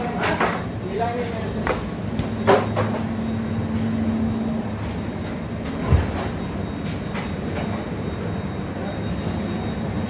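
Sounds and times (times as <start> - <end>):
train running noise inside coach: 0.0 - 10.0.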